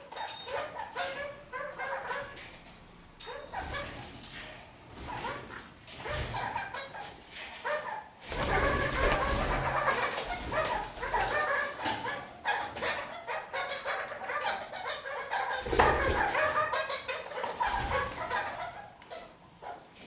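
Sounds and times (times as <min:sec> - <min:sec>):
parakeets calling harshly: 0:00.0 - 0:02.6, 0:03.2 - 0:04.1, 0:05.0 - 0:19.9.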